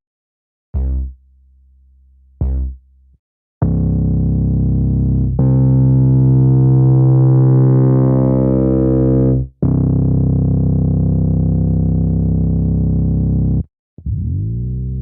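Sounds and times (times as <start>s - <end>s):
synthesizer playing low notes: 0.8s - 1.2s, 2.4s - 2.8s, 3.6s - 15.0s.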